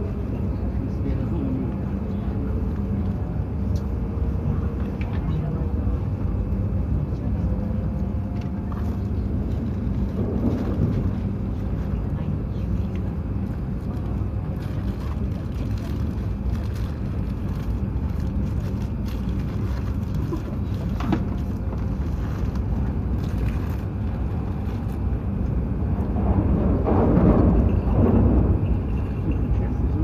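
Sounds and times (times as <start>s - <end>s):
train wheels and airflow rumble: 0.0s - 30.0s.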